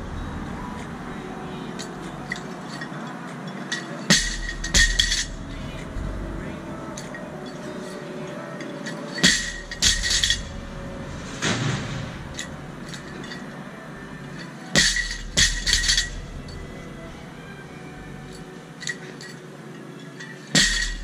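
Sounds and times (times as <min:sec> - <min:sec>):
weight plates rattling: 0:00.0 - 0:19.4, 0:20.0 - 0:21.0.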